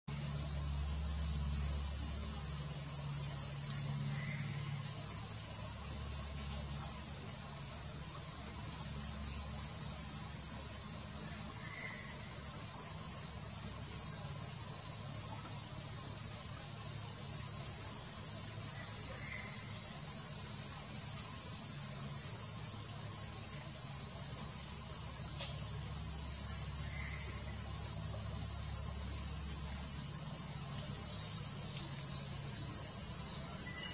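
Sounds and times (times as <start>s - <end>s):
faint low hum: 0.1s - 33.9s
insect chorus droning: 0.1s - 33.9s.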